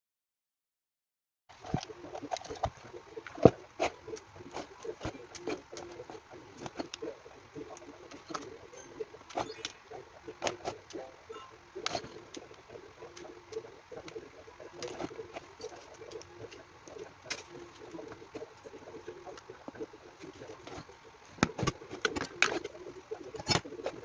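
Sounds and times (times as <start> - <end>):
plastic parts clicking and knocking: 1.5 - 24.0.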